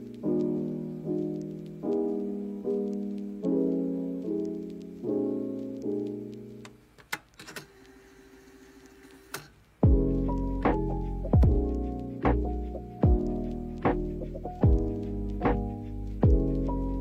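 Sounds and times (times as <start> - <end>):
soft piano chords: 0.0 - 7.0, 9.8 - 17.0.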